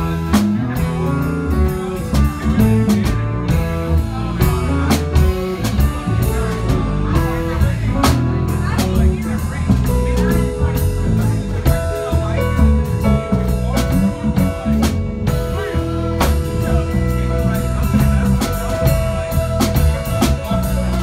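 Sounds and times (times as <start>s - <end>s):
live rock band jamming: 0.0s - 21.0s.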